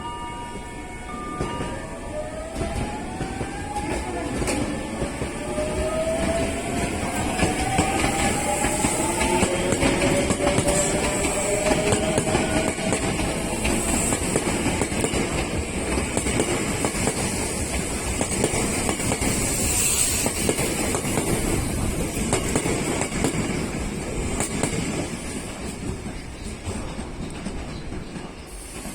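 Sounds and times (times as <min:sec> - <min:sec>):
train rumble and hiss: 0:00.7 - 0:28.9.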